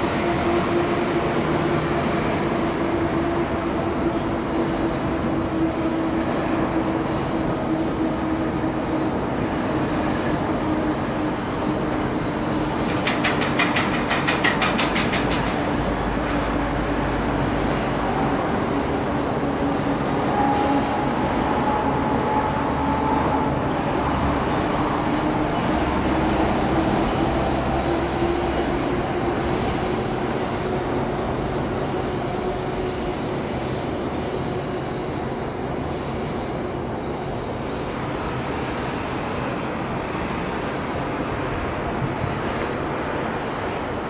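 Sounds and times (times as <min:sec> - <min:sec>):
train rolling past with whine: 0:00.0 - 0:44.0.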